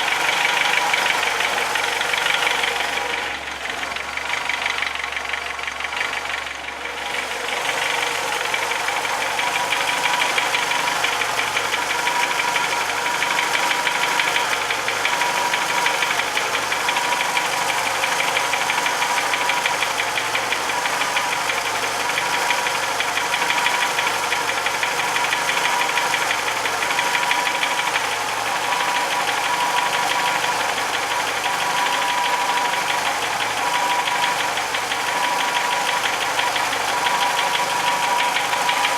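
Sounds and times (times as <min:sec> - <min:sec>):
car engine running with rapid knocking: 0:00.0 - 0:38.9.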